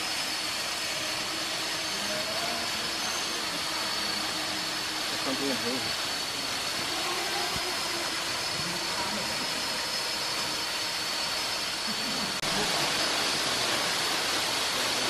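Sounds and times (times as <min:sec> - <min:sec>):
small waterfall hissing into pool: 0:00.0 - 0:15.0.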